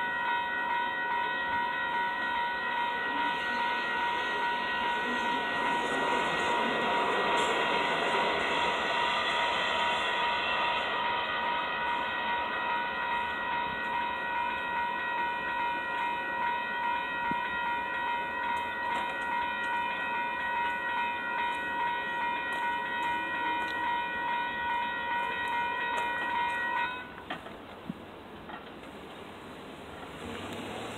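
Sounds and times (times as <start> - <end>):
railroad crossing bells ringing: 0.0 - 27.7
train rumble: 0.0 - 30.9.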